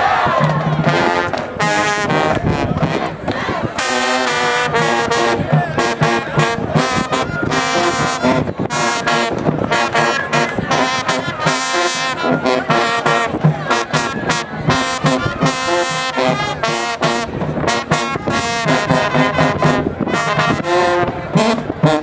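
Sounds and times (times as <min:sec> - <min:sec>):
brass marching band playing: 0:00.0 - 0:22.0.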